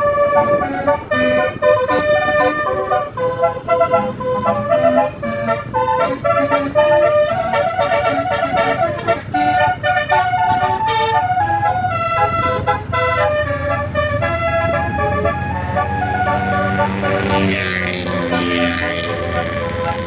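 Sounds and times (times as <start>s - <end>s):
bus air horn tooting melody: 0.0s - 20.0s
passing vehicle noise: 0.0s - 20.0s.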